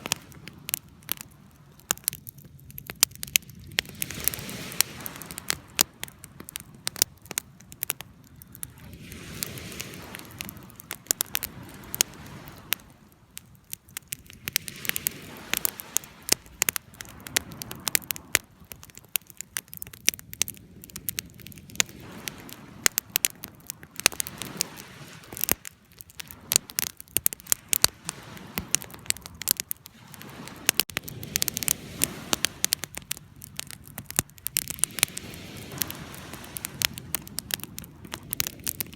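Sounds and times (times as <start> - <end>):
wood fire crackling and popping: 0.0 - 38.9
rush of flame: 2.8 - 7.8, 8.4 - 12.9, 13.9 - 38.9.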